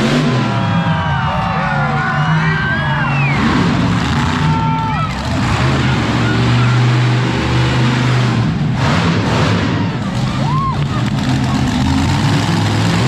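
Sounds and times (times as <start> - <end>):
truck engine running loudly: 0.0 - 13.0.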